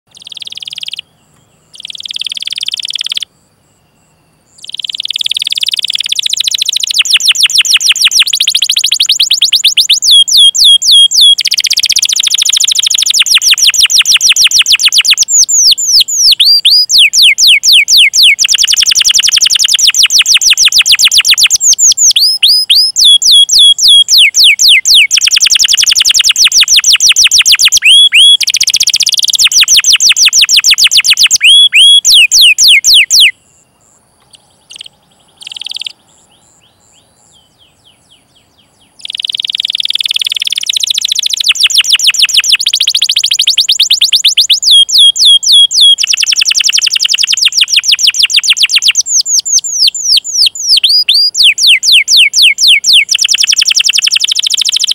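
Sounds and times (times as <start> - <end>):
canary singing trills: 0.1 - 54.9.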